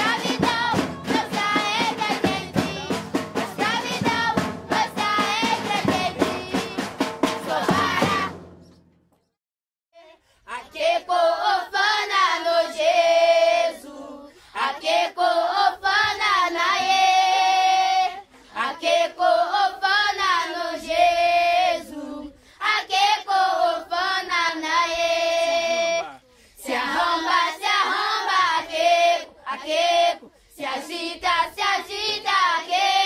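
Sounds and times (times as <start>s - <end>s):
children's choir singing: 0.0s - 8.5s, 10.5s - 33.0s.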